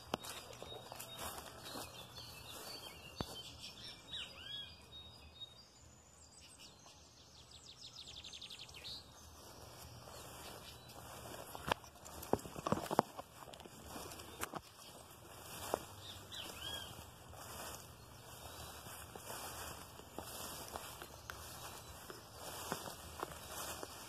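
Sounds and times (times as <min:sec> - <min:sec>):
birds calling faintly: 0:00.0 - 0:24.0.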